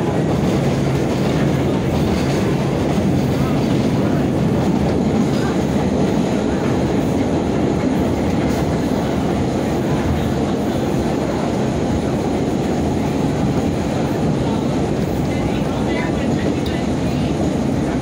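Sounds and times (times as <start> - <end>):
subway car wheels rumbling on rails: 0.0 - 18.0.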